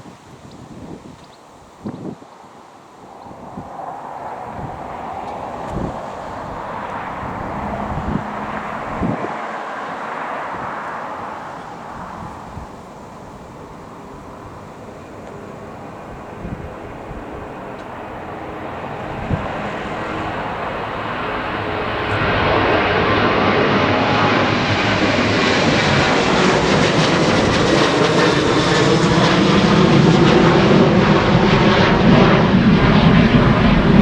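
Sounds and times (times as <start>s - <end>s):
airliner engines passing: 0.0s - 34.0s.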